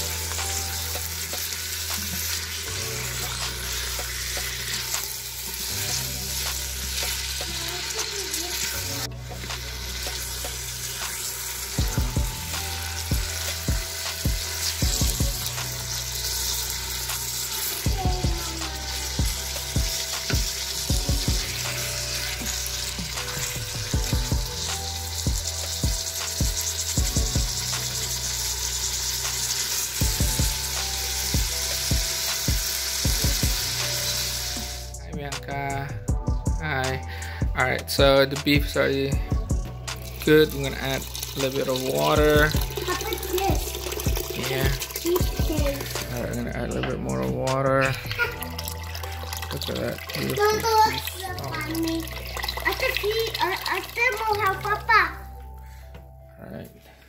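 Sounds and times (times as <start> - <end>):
beef sizzling in a pot: 0.0 - 35.0, 39.9 - 46.6, 47.9 - 54.9.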